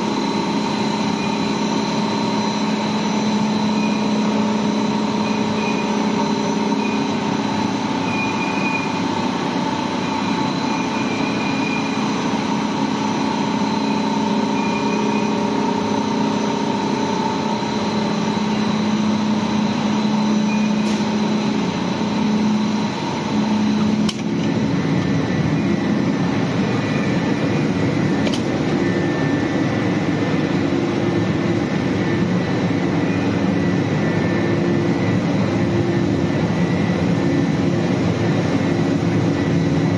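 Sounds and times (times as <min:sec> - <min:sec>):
loud machinery drone: 0:00.0 - 0:39.9.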